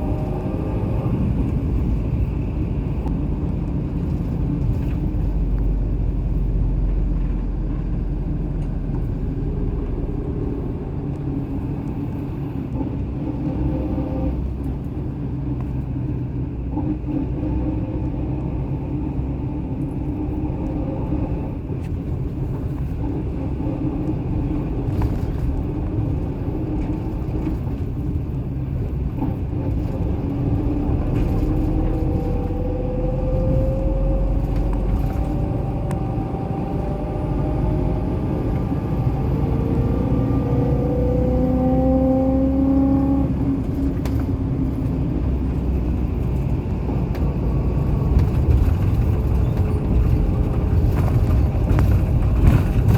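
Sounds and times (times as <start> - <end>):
engine and road rumble: 0.0 - 52.9.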